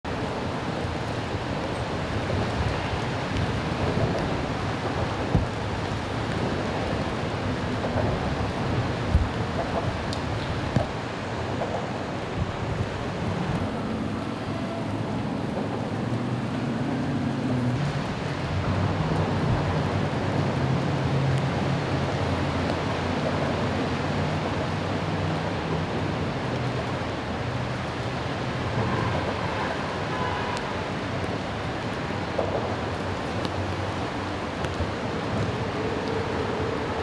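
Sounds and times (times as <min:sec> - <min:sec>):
rain: 0:00.0 - 0:37.0
wind: 0:00.0 - 0:37.0
low hum of vehicle engines: 0:00.1 - 0:37.0.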